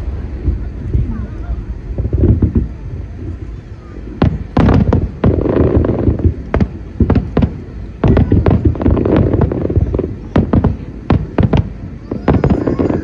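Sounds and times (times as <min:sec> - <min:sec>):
fireworks shells bursting: 0:00.0 - 0:13.0.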